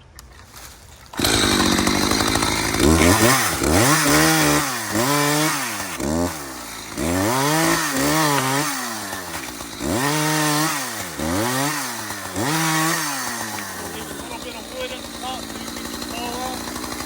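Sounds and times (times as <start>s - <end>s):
chainsaw cutting a log: 1.1s - 17.0s.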